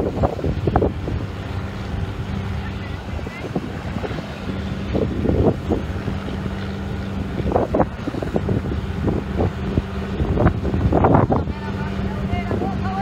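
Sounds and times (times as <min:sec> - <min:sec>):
boat engine humming: 0:00.0 - 0:13.0
wind on microphone: 0:00.0 - 0:13.0.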